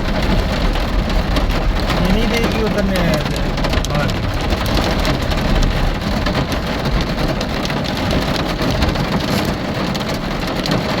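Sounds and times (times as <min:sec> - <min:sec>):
heavy rain: 0:00.0 - 0:11.0
raindrops striking sharply: 0:00.0 - 0:11.0.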